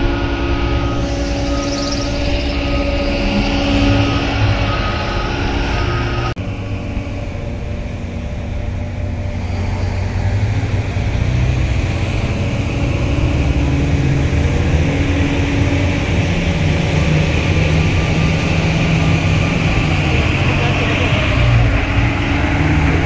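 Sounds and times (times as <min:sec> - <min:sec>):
heavy diesel machinery droning: 0:00.0 - 0:23.0.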